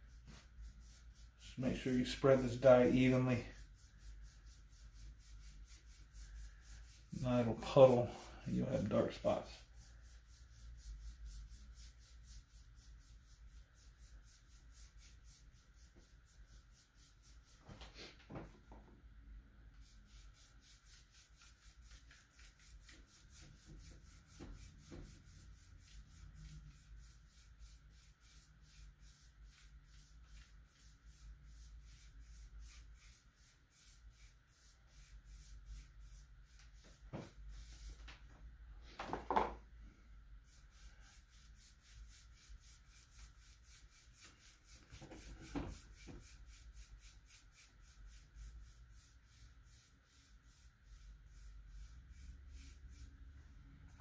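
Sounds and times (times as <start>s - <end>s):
foam brush rubbing on wood: 0.0s - 18.2s, 19.8s - 38.1s, 40.4s - 53.3s.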